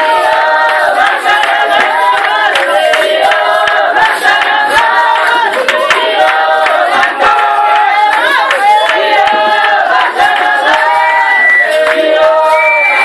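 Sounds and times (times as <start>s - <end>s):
drum beats: 0.0s - 13.0s
group of people singing: 0.0s - 13.0s
hand claps: 0.0s - 13.0s.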